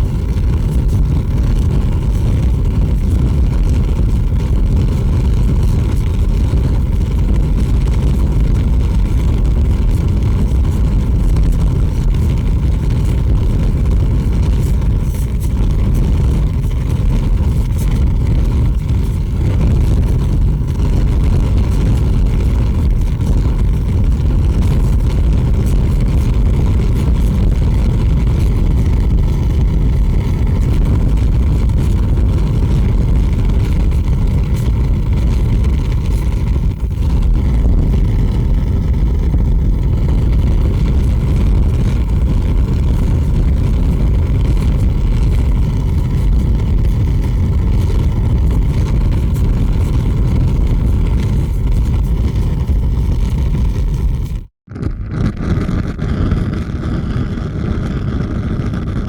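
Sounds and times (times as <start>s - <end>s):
fire crackles: 0.0s - 59.0s
large fire rumbling: 0.0s - 59.0s.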